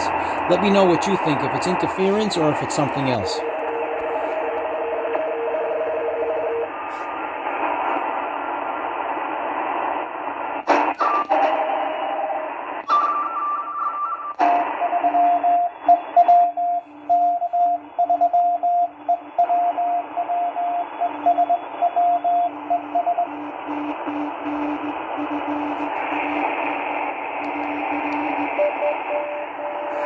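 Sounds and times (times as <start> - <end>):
radio static hiss: 0.0 - 18.0, 18.6 - 30.0.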